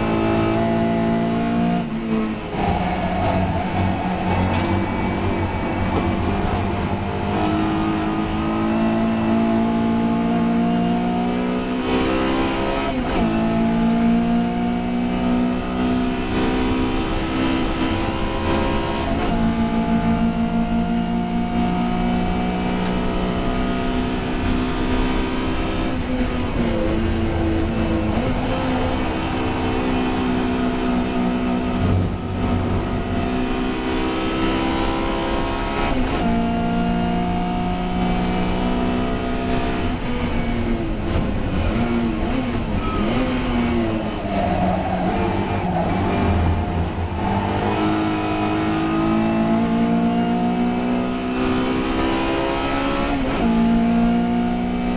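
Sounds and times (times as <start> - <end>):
racing car engine accelerating: 0.0 - 54.9.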